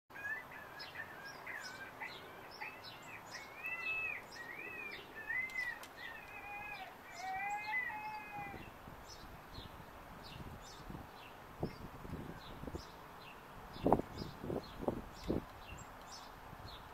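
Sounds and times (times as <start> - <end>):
songbirds whistling: 0.1 - 16.9.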